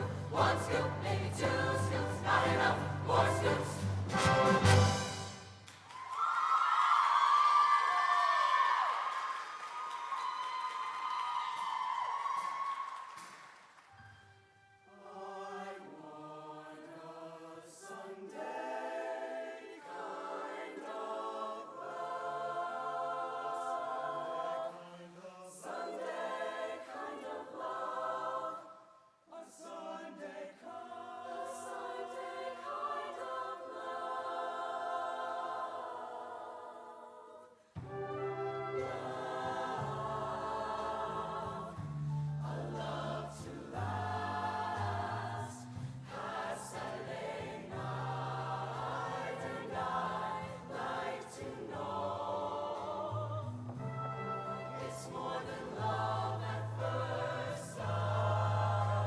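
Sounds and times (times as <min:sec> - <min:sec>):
choir singing long chords: 0:00.0 - 0:05.7, 0:14.0 - 0:59.0.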